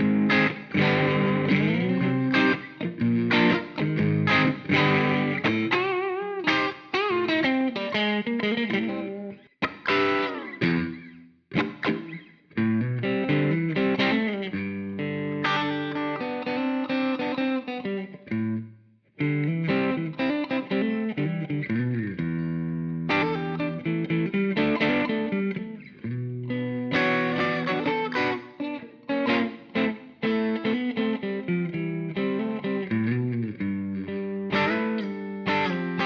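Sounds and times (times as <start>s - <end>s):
electric guitar blues lead: 0.0s - 36.0s.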